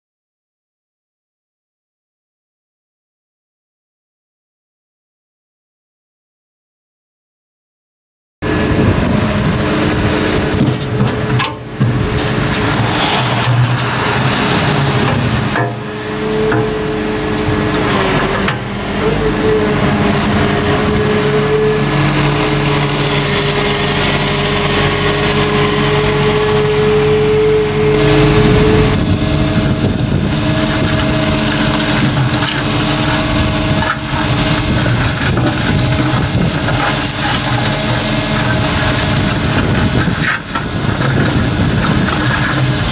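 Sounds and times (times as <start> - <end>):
diesel engine under load: 8.4 - 42.9
hydraulic whine: 8.4 - 42.9.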